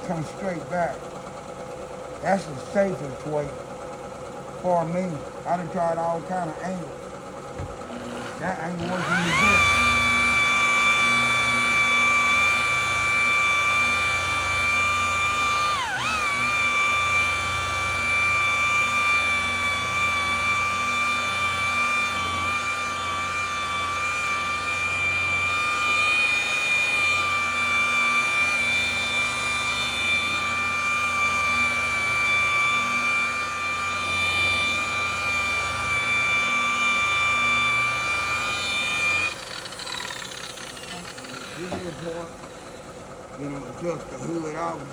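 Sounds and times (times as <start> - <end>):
rotary buffer whining: 0.0 - 44.9.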